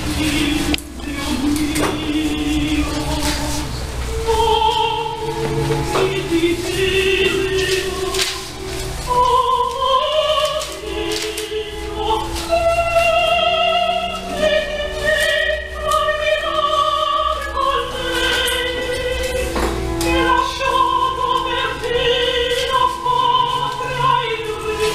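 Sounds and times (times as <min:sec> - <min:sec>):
classical operatic singing: 0:00.0 - 0:24.9.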